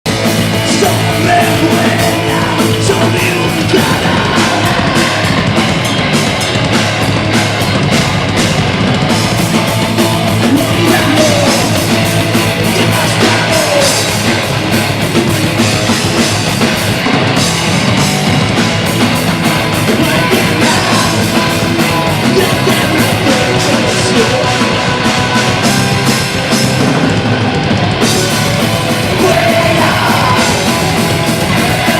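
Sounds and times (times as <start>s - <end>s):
driving drum beat: 0.0s - 31.9s
rock band playing live: 0.0s - 31.9s.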